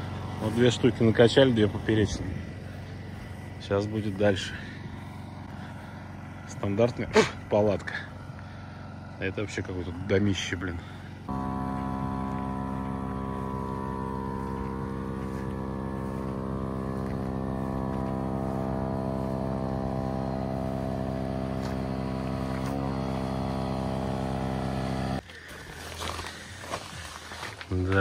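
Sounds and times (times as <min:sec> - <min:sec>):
electric air pump humming: 0:00.0 - 0:25.5.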